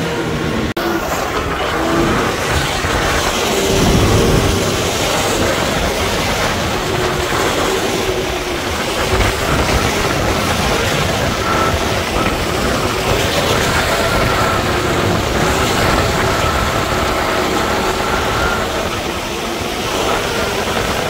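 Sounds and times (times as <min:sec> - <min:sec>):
diesel machinery rattling rumble: 0:00.0 - 0:21.0.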